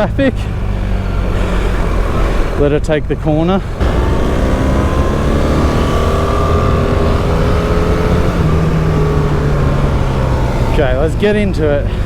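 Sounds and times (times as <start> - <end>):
motorcycle engine running: 0.7 - 12.0.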